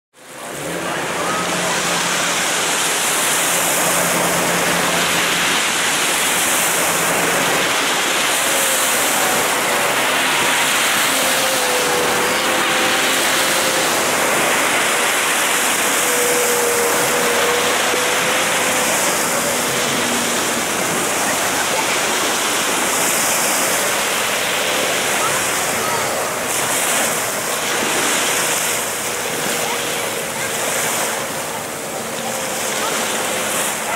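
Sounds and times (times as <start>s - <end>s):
outboard engine whine: 0.1s - 33.9s
rushing spray and air: 0.4s - 33.9s.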